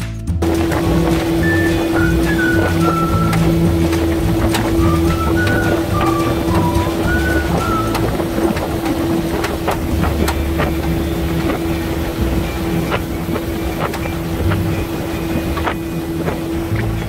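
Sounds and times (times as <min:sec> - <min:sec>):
outboard motor running: 0:00.4 - 0:17.0
wind on microphone: 0:00.4 - 0:17.0.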